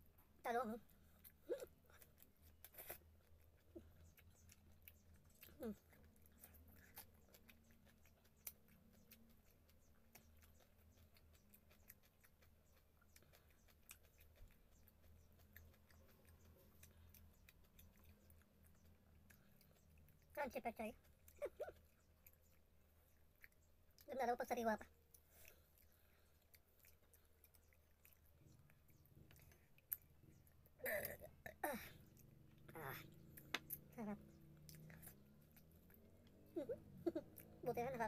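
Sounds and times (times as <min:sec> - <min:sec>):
low room hum: 0:00.0 - 0:38.0
person chewing: 0:00.2 - 0:20.4, 0:21.0 - 0:24.1, 0:25.0 - 0:37.7.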